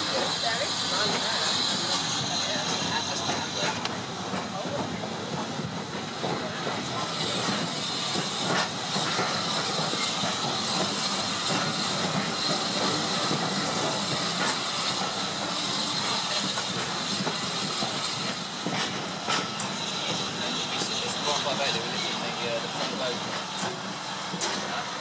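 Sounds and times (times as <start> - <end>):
diesel train idling: 0.0 - 25.0.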